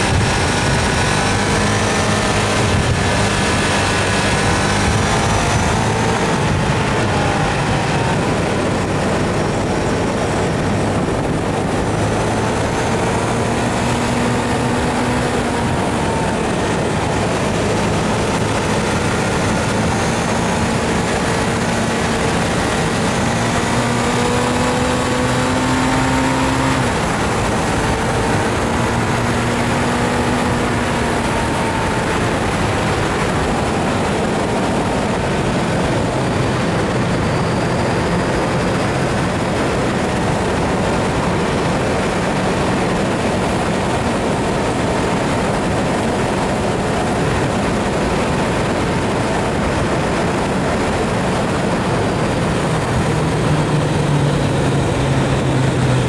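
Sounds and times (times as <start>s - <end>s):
motorcycle engine hum: 0.0s - 56.0s
wind rush on microphone: 0.0s - 56.0s.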